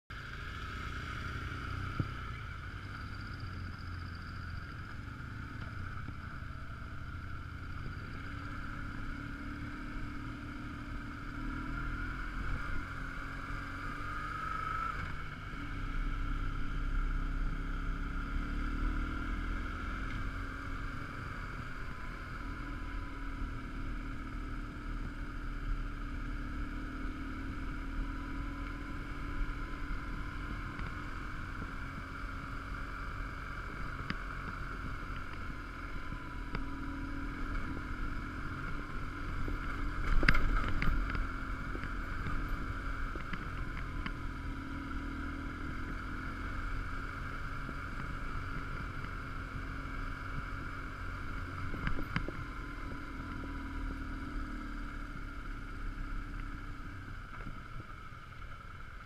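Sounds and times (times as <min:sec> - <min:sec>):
motorcycle engine revving: 0:00.2 - 0:59.0.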